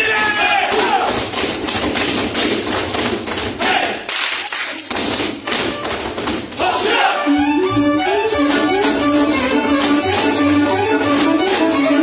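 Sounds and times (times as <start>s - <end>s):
boots stamping on wooden stage: 0.0s - 3.9s, 4.9s - 6.8s, 7.7s - 12.0s.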